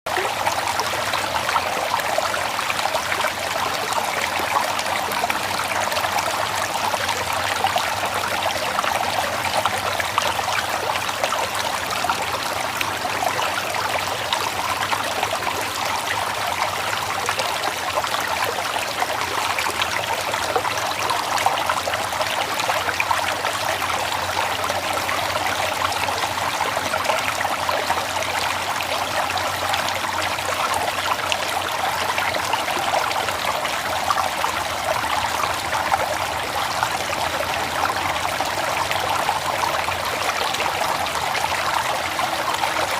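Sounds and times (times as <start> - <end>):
river water flowing: 0.1 - 42.9.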